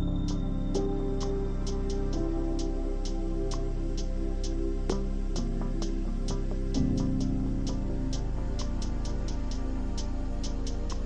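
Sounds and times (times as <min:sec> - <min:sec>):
bass line: 0:00.0 - 0:11.0
mellow sustained notes: 0:00.0 - 0:11.0.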